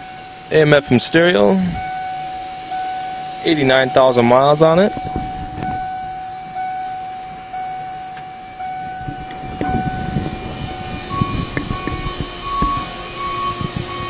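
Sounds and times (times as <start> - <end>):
dashboard warning chime: 0.0 - 14.0.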